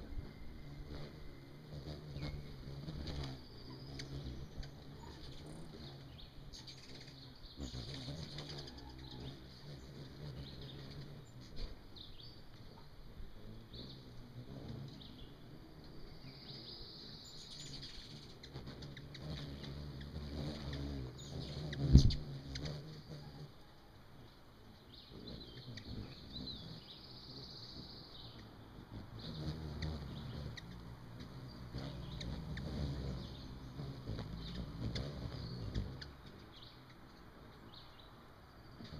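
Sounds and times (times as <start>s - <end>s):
hummingbird wings whirring: 0.0s - 38.9s
songbirds chirping: 0.0s - 38.9s.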